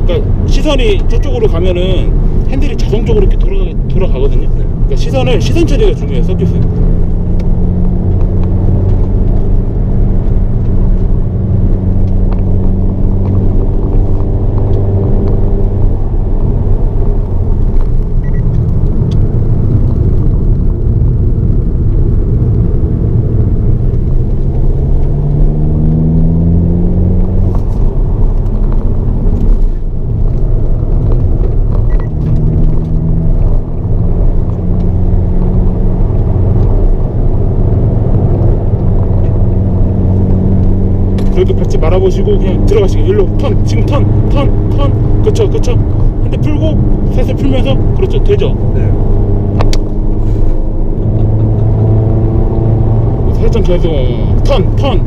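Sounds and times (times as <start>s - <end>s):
car engine revving from inside: 4.7s - 55.0s.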